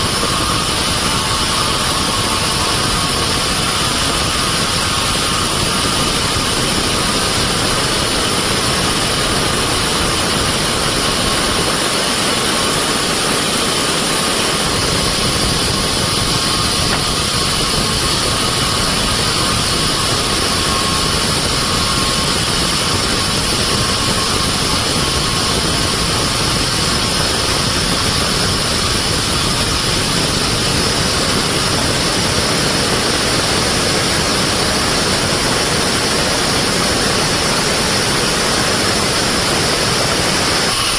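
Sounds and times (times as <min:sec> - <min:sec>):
band saw running: 0:00.0 - 0:40.9
faint high whine: 0:00.0 - 0:40.9.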